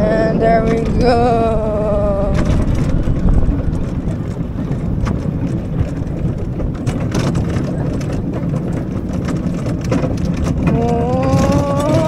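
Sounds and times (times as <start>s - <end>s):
roller coaster rumbling on track: 0.0s - 12.0s
wind over microphone: 0.0s - 12.0s.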